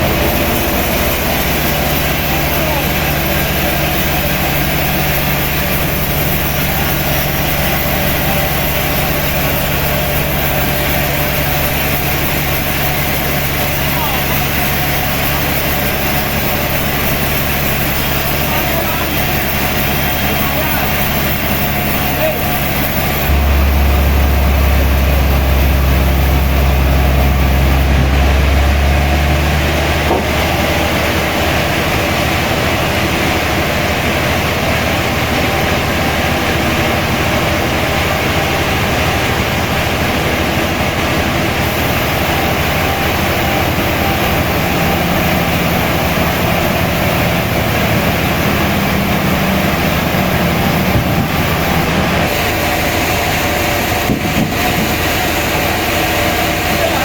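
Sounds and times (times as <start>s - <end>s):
low engine hum: 0.0s - 57.0s
sawmill machinery running: 0.0s - 57.0s.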